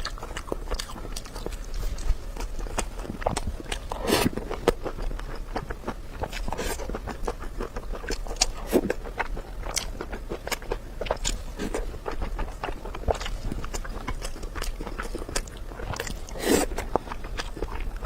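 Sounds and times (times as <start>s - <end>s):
wet chewing and mouth smacks: 0.0s - 18.0s.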